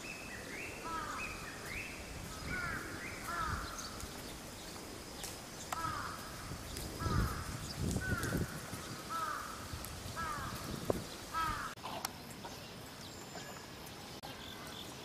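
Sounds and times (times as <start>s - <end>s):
bird calling: 0.0s - 15.0s
outdoor background: 0.0s - 15.0s.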